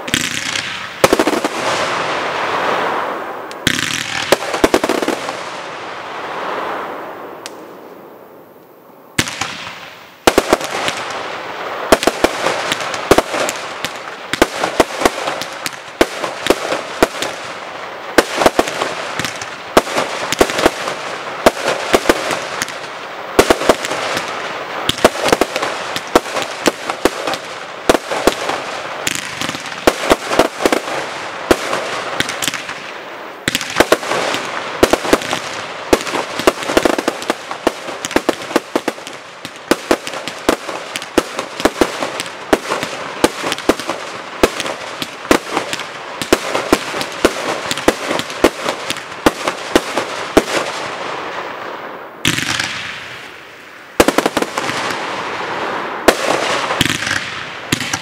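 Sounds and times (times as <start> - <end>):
firework crackle: 0.0 - 58.0.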